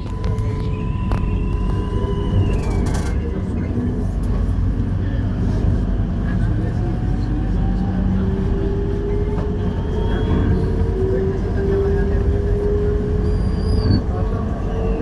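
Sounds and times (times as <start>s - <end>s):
train carriage rumbling on track: 0.0s - 15.0s.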